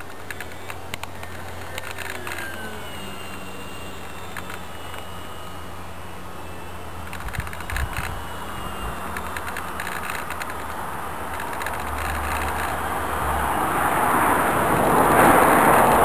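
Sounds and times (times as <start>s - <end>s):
model airplane motor droning: 0.0s - 16.0s.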